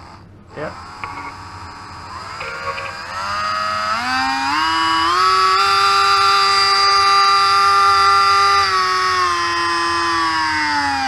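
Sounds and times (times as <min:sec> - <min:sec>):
rotary tool motor whining: 0:00.0 - 0:11.0.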